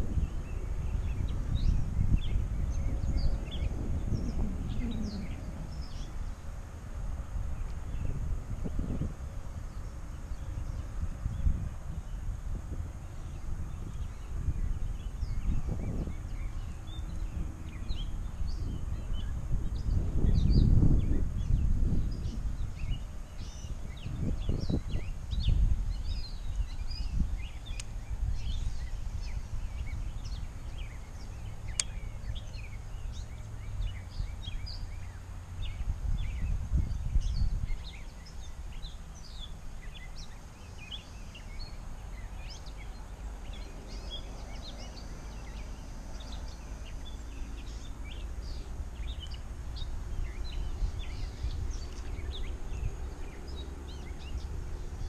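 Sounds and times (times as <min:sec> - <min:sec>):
birds chirping and singing: 0:00.0 - 0:06.6, 0:13.0 - 0:55.0
wind rumbling on microphone: 0:00.0 - 0:55.0.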